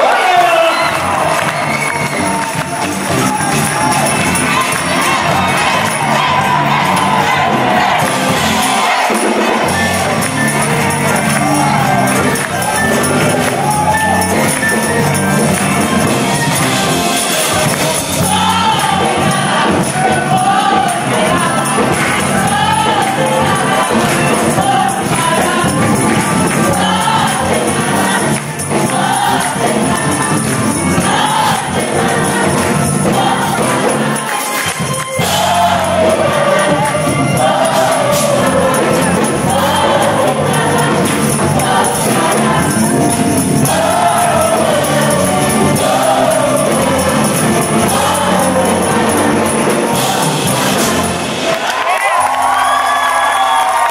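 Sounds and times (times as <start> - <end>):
choir singing upbeat gospel: 0.0 - 53.9.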